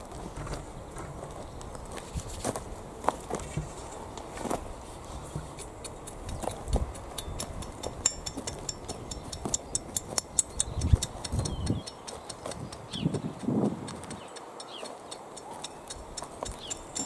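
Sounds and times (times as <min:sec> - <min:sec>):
rake scraping soil and stones: 0:00.0 - 0:17.0.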